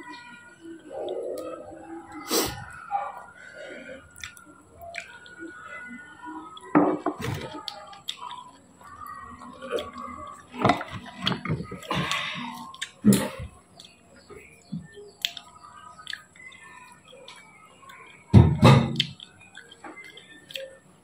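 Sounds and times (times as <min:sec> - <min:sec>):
chewing: 0:00.8 - 0:18.3, 0:18.9 - 0:20.9.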